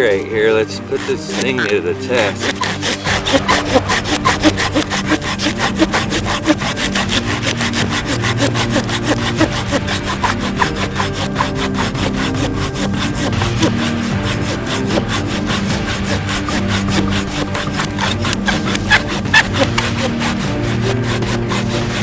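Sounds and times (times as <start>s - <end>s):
handsaw cutting into tree: 0.0s - 22.0s.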